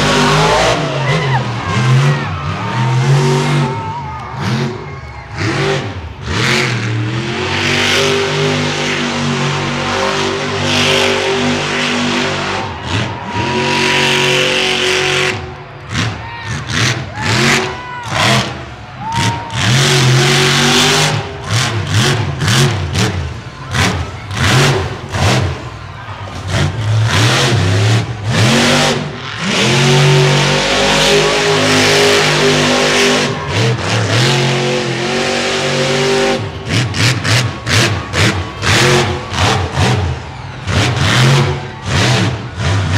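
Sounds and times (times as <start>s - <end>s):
monster truck engine revving: 0.0s - 42.9s.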